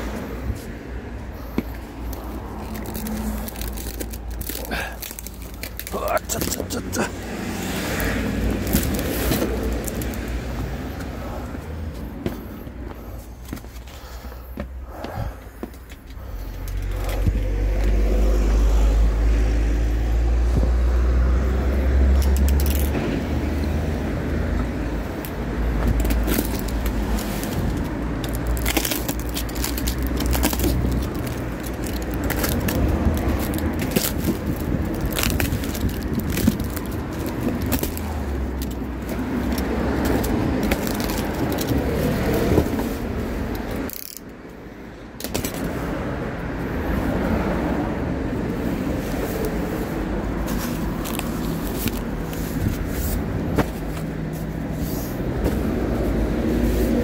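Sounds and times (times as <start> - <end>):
motor vehicle engine rumbling: 0.0 - 57.0.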